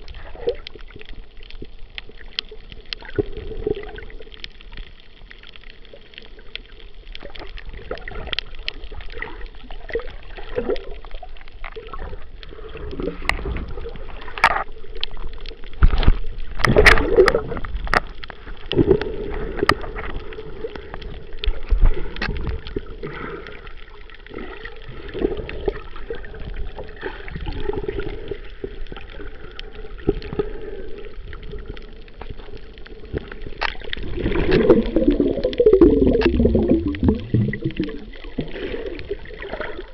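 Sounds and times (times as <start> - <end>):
muffled underwater water sloshing: 0.0 - 39.9.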